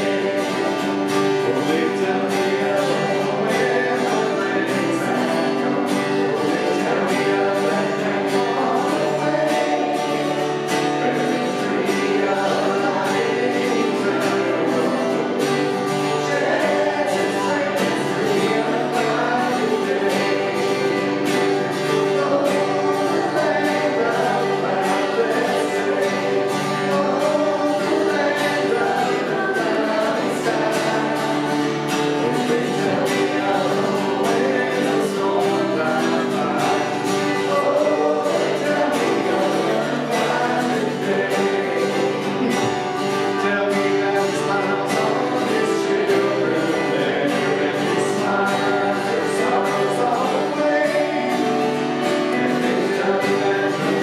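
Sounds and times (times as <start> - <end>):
group singing a hymn: 0.0 - 54.0
strummed acoustic guitar: 0.0 - 54.0.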